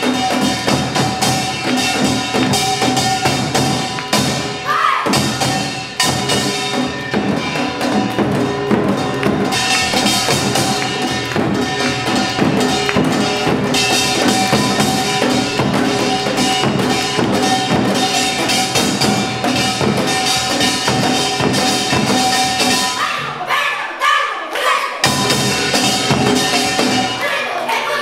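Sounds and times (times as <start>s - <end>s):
gongs ringing: 0.0s - 23.0s, 25.0s - 27.2s
hourglass and barrel drums: 0.0s - 23.2s, 25.0s - 27.3s.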